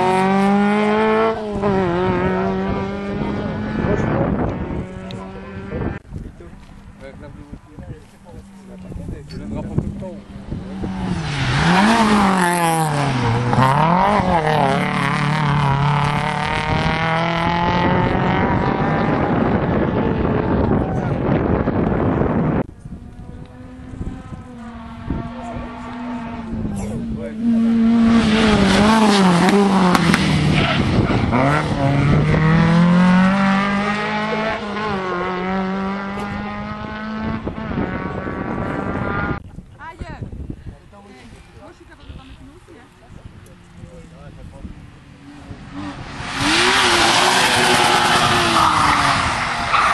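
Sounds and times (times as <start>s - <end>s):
rally car engine revving: 0.0s - 6.1s, 8.4s - 39.4s, 44.0s - 49.9s.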